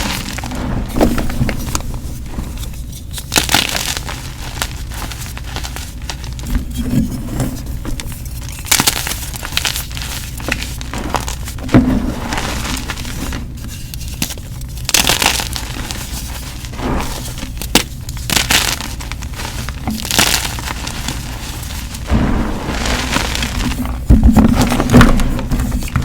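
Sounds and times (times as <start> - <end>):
chalk crunching and crumbling: 0.0 - 26.0
steady low hum: 0.0 - 26.0.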